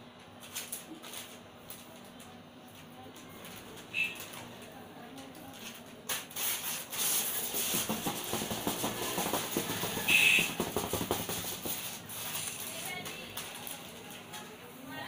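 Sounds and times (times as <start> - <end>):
glitter pattering onto newspaper: 0.2 - 15.0.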